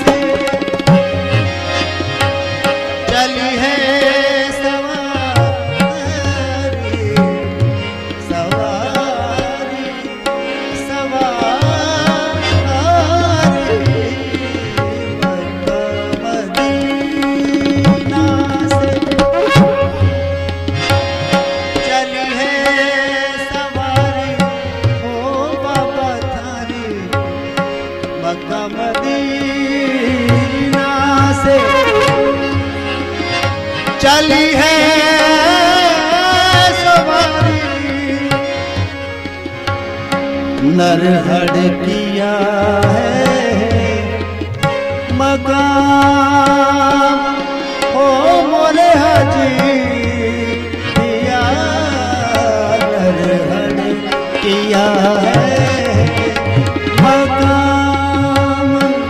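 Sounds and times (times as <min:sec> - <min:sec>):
tabla drumming: 0:00.0 - 0:59.0.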